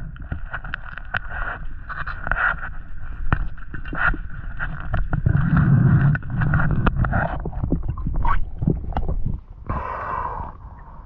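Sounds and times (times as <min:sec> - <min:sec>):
underwater clicks and knocks: 0:00.0 - 0:09.5
muffled rumble of moving water: 0:00.0 - 0:11.0.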